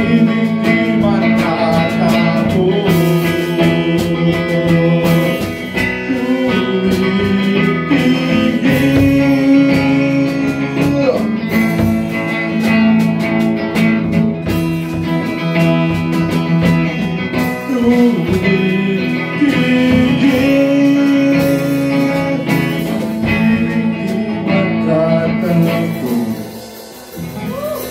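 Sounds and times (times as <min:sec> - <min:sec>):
man singing: 0:00.0 - 0:13.0, 0:15.1 - 0:27.9
drums and cymbals: 0:00.0 - 0:27.9
electric guitar chords: 0:00.0 - 0:27.9.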